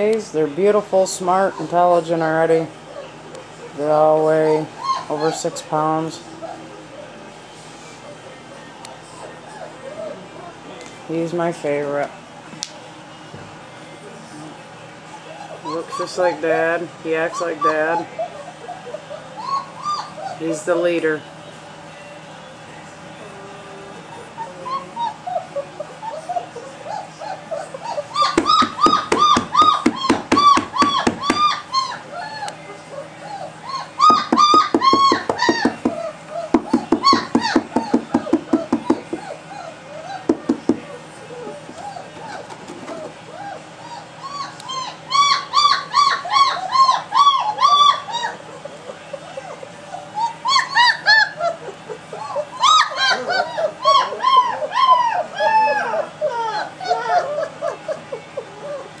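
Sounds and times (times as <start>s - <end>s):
puppies whining: 0.0s - 59.0s
soft puppy whimpers: 1.3s - 2.2s, 2.8s - 8.3s, 9.0s - 10.6s, 14.0s - 21.1s, 23.2s - 59.0s.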